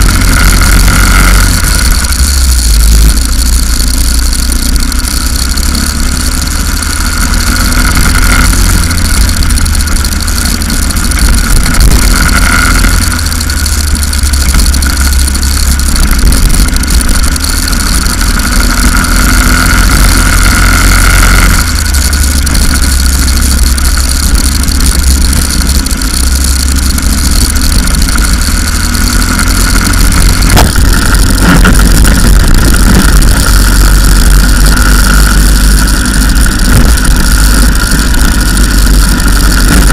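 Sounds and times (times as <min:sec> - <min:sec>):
go-kart engine revving: 0:00.0 - 0:39.9
heavy low rumble: 0:00.0 - 0:39.9.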